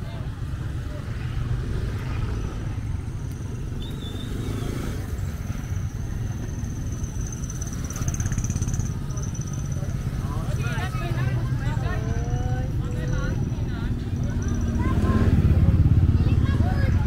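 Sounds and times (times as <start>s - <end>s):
motorcycle and car traffic rumble: 0.0s - 17.0s.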